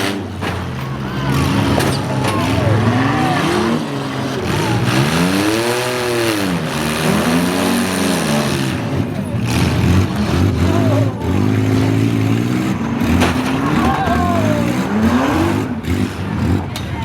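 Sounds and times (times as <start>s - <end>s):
car engines running: 0.0s - 17.0s
engine revving: 0.0s - 17.0s.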